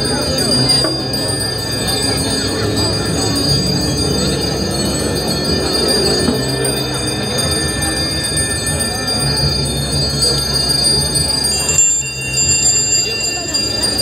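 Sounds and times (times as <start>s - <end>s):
bells jingling: 0.0s - 14.0s
crowd murmur: 0.0s - 14.0s.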